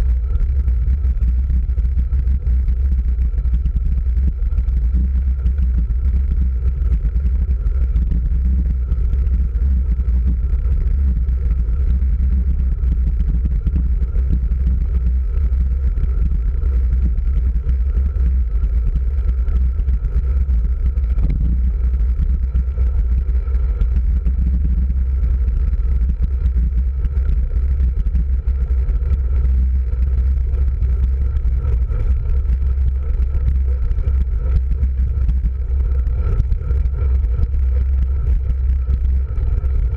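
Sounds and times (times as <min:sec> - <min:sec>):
tyre and road vibration: 0:00.0 - 0:39.9.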